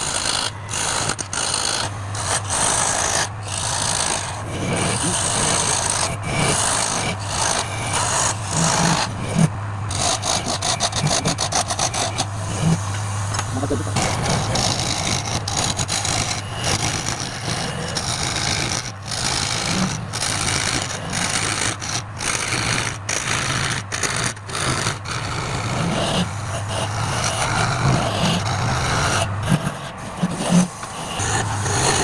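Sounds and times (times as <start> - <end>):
lathe motor hum: 0.0 - 32.0
turning tool scraping wood: 0.0 - 32.0.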